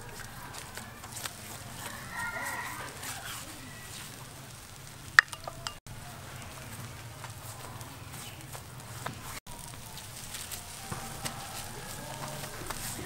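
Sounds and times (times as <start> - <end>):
distant call: 0.0 - 13.0
meat sizzling over embers: 0.0 - 13.0.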